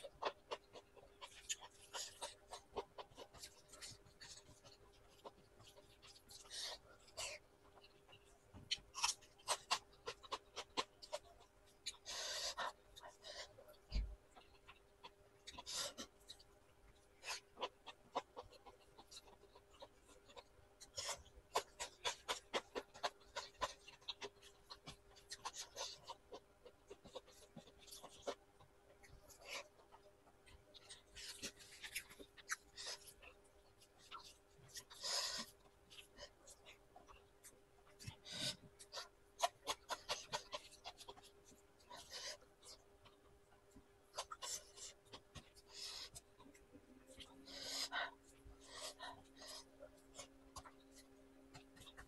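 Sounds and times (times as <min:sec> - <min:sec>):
faint steady hum: 0:00.0 - 0:52.0
wet eating clicks and smacks: 0:00.0 - 0:52.0.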